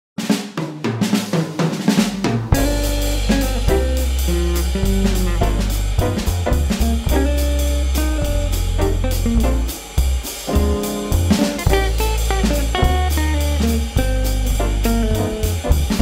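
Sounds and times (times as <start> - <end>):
guitar music with bass and drums: 2.2 - 16.0.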